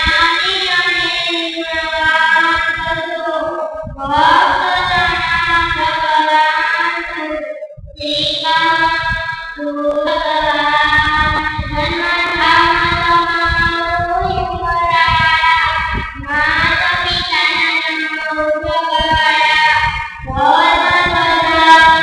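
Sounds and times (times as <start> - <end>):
girl singing a hymn: 0.0 - 22.0.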